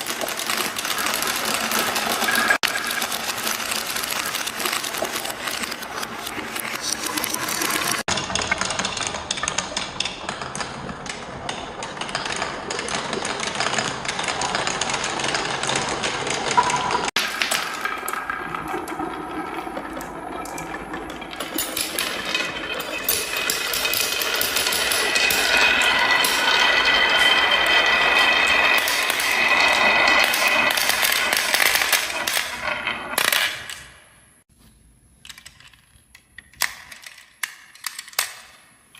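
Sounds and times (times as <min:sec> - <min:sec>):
marbles clattering down wooden run: 0:00.0 - 0:34.0.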